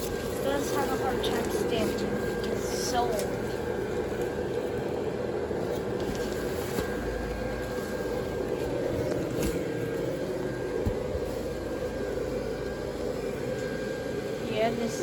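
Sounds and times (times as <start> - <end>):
inflatable blower fan whirring: 0.0 - 15.0.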